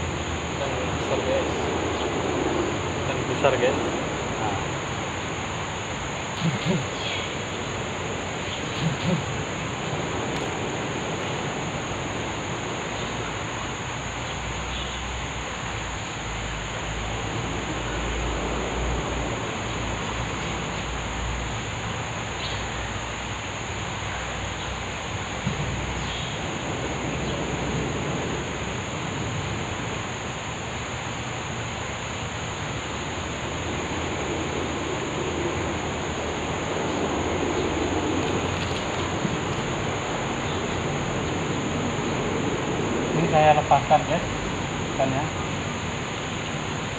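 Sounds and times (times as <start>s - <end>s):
high-pitched insect drone: 0.0s - 46.9s
noisy outdoor background: 0.0s - 46.9s.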